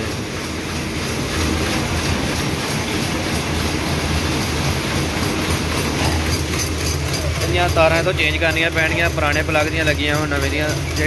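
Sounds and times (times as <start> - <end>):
looms clattering: 0.0 - 11.0
low machine hum: 0.0 - 11.0.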